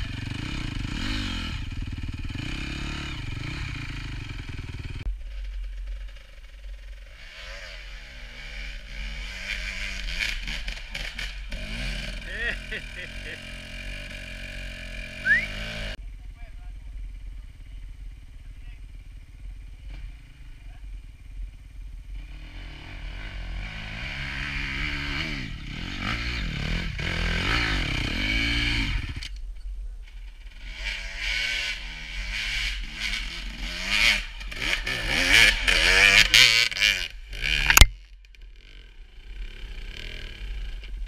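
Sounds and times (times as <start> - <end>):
dirt bike engines revving: 0.0 - 29.4, 30.0 - 41.0.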